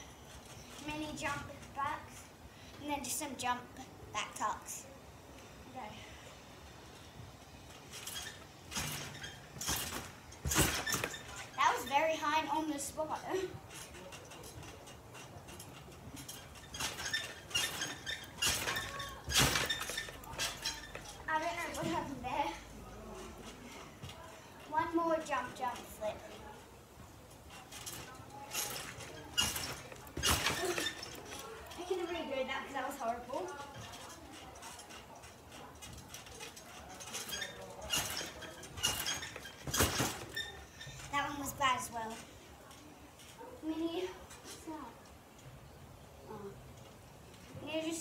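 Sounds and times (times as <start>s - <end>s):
trampoline springs clinking: 0.0s - 4.7s, 5.4s - 48.0s.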